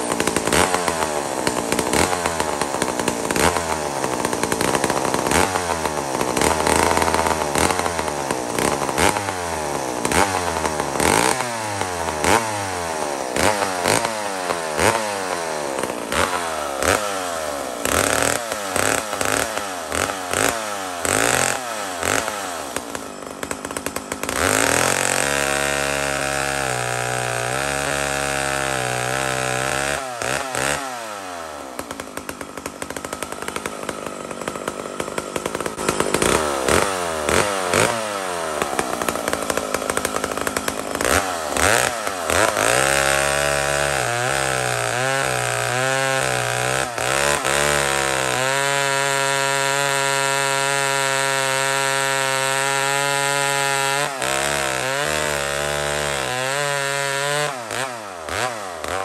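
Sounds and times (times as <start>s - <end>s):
chainsaw revving and cutting log: 0.0s - 59.0s.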